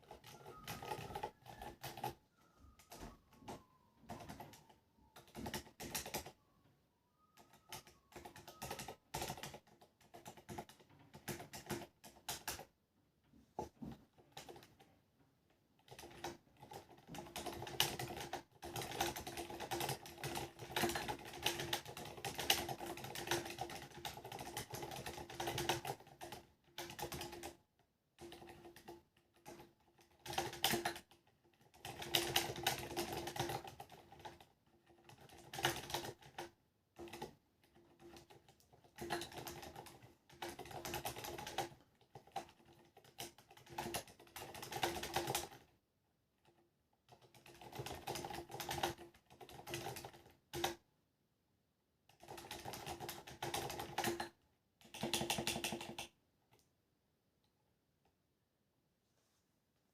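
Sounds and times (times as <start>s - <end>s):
soft muted keyboard typing: 0.0s - 12.8s, 13.5s - 45.8s, 46.4s - 50.8s, 52.1s - 56.7s.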